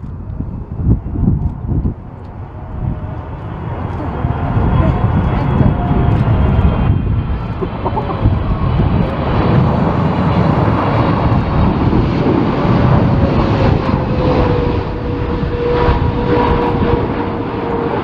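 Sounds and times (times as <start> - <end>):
jet airliner engines: 0.0 - 18.0.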